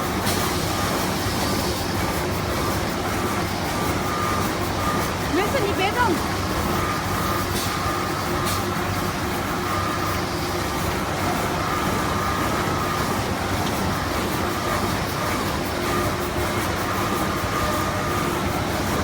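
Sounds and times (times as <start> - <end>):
cutting machine running with whine: 0.0 - 19.0.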